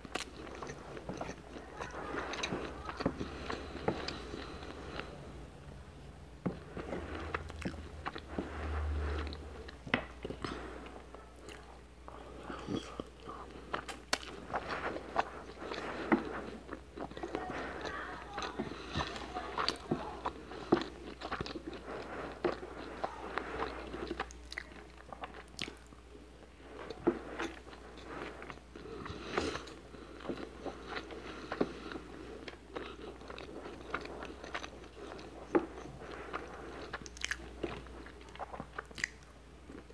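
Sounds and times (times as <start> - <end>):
chewing rice: 0.0 - 5.2, 6.4 - 39.9.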